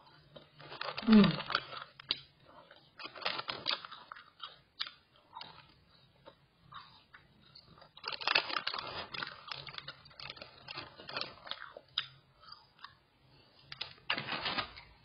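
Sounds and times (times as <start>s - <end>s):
close-up chewing: 0.0s - 14.1s.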